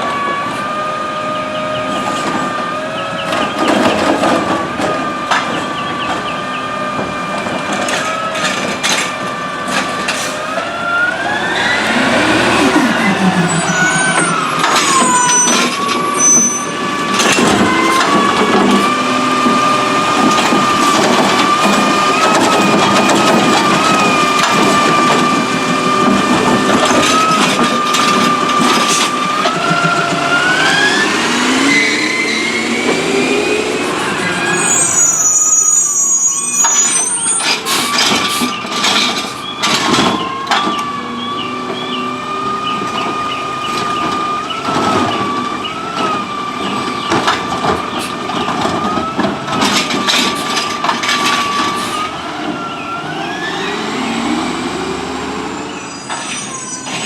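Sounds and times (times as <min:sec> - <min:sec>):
garbage truck engine whine: 0:00.0 - 0:57.0
clanks from arm and carts: 0:01.8 - 0:10.7, 0:11.6 - 0:31.6, 0:36.5 - 0:54.0.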